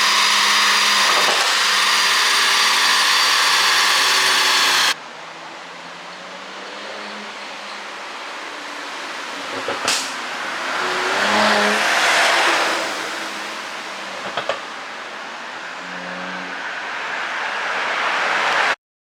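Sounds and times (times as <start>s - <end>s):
car engine and road noise: 0.0s - 18.8s.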